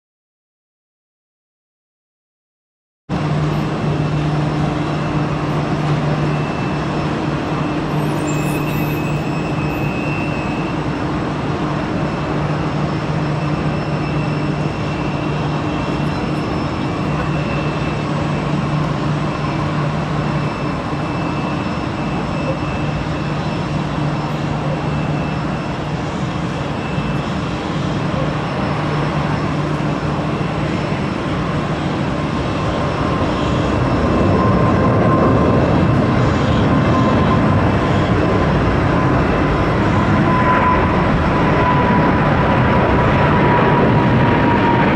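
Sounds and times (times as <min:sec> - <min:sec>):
constant low hum: 0:03.1 - 0:44.9
jet engine rumble: 0:03.1 - 0:44.9.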